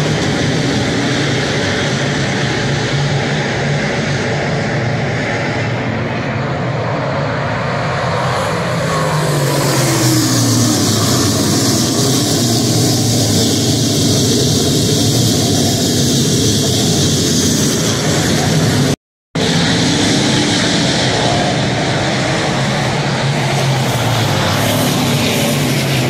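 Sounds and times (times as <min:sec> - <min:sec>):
race car engines roaring: 0:00.0 - 0:26.0.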